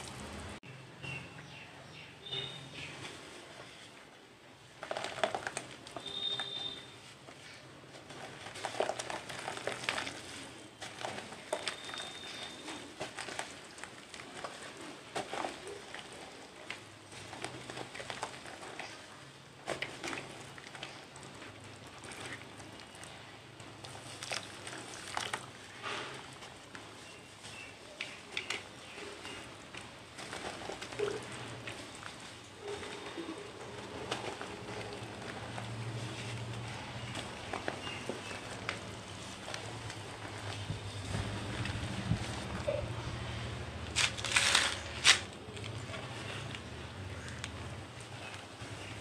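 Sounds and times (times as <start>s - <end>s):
cement crumbling and crunching: 4.8s - 6.8s, 8.0s - 49.0s
wet squishing: 4.8s - 7.0s, 7.8s - 49.0s.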